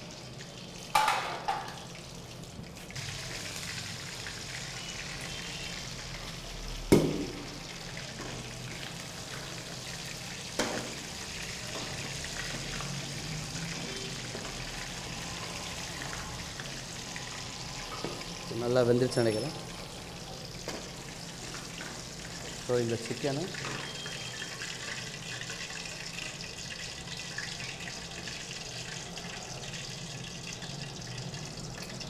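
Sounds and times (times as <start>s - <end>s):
oil sizzling while deep-frying: 0.0s - 32.0s.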